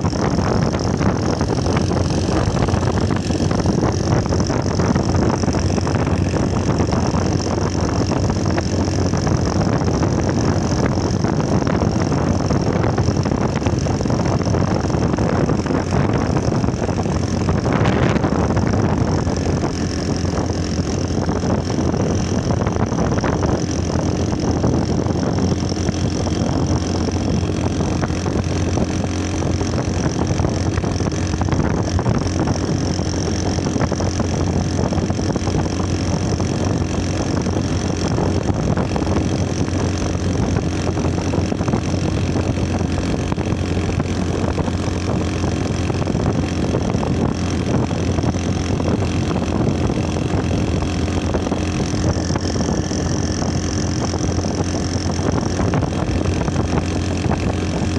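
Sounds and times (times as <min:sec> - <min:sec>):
motorcycle engine idling: 0:00.0 - 0:57.9.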